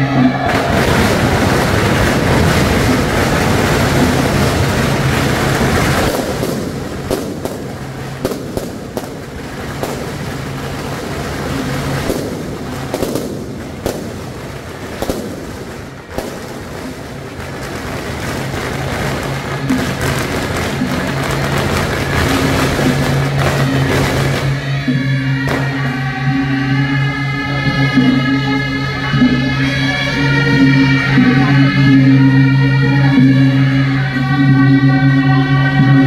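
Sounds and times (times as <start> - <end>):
firecrackers crackling and banging: 0.0 - 36.0.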